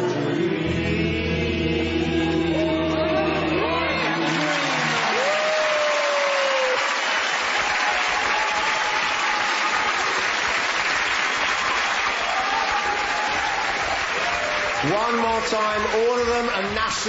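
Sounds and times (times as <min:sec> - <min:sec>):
audience applauding and cheering: 0:02.6 - 0:17.0.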